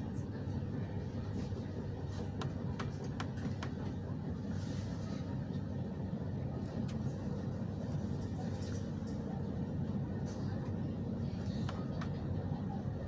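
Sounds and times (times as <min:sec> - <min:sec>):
passenger train low rumble: 0:00.0 - 0:13.0.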